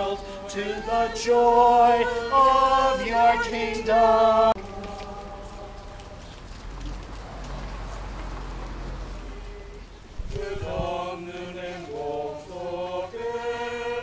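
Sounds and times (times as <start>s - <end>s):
choir singing a hymn: 0.0s - 6.3s, 8.6s - 14.0s
low outdoor rumble: 0.0s - 13.4s.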